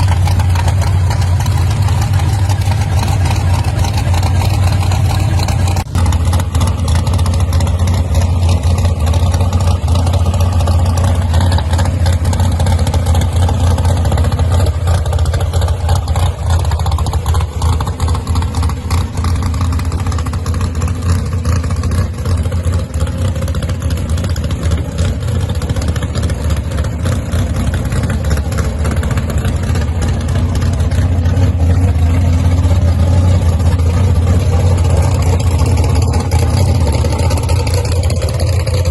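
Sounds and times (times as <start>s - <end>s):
hot rod engine idling: 0.0s - 38.9s.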